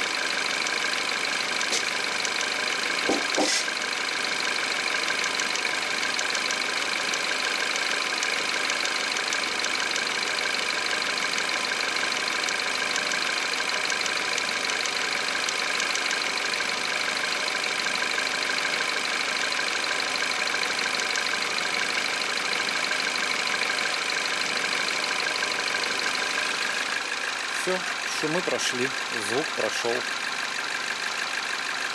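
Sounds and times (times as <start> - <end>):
car engine idling: 0.0 - 31.9
faint engine ticking: 0.0 - 31.9.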